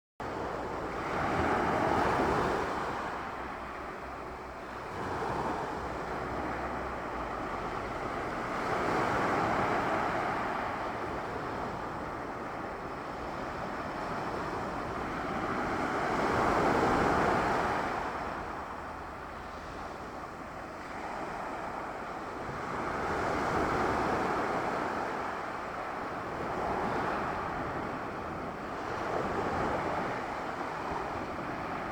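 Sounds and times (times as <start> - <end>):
sea waves washing onto shore: 0.2 - 31.9.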